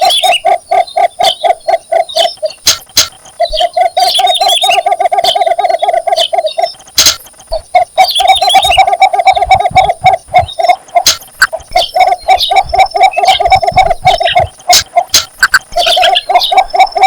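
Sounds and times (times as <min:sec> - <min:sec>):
bittern clucking call: 0:00.0 - 0:17.0.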